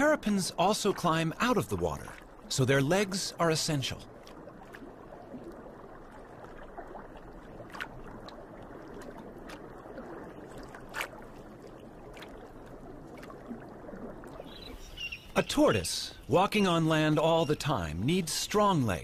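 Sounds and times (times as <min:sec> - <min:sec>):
underwater watery rush: 0:00.0 - 0:19.0.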